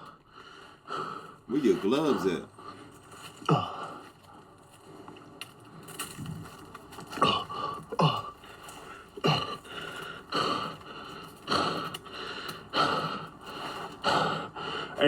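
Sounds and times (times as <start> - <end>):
man breathing heavily and gasping: 0.0 - 4.9, 7.1 - 15.0.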